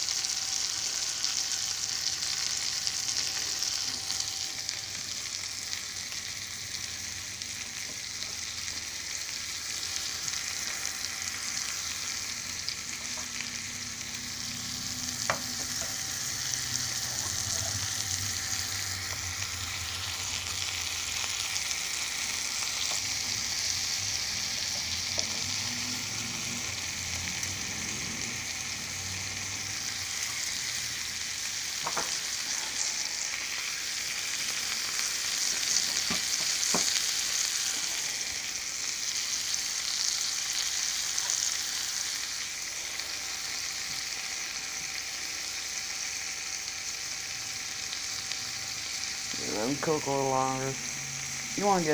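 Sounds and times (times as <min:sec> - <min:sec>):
chicken sizzling in butter: 0:00.0 - 0:51.9.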